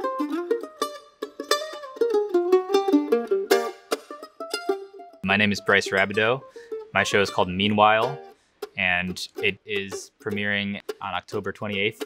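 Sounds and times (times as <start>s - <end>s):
mandolin picking: 0.0s - 12.0s.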